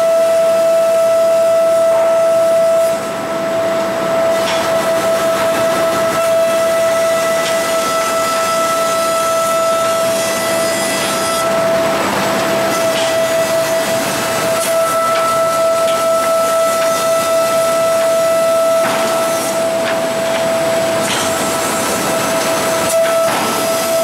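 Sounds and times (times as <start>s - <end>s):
planer high-pitched whine: 0.0s - 24.0s.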